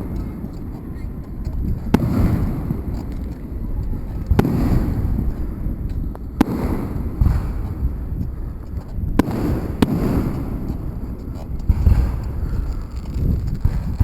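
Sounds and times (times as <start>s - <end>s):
fireworks bangs: 0.0s - 14.0s
low rumble of fireworks bursts: 0.0s - 14.0s.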